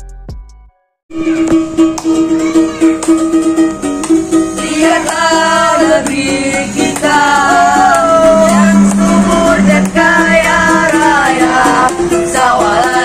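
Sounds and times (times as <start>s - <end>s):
ukulele strumming: 1.1s - 13.0s.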